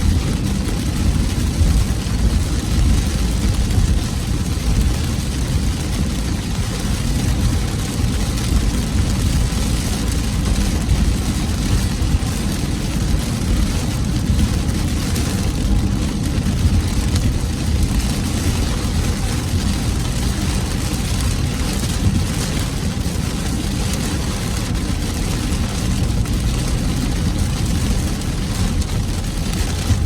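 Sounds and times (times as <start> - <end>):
heavy rain on car roof: 0.0 - 30.0
road and engine rumble: 0.0 - 30.0.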